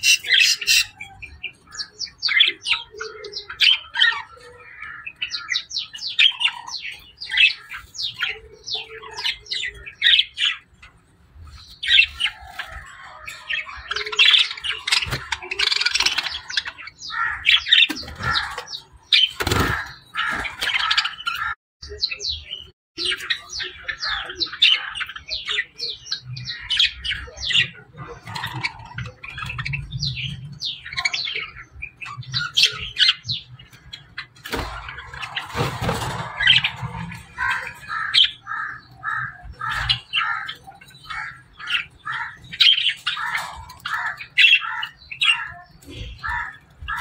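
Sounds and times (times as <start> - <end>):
budgerigars chattering: 0.0 - 47.0.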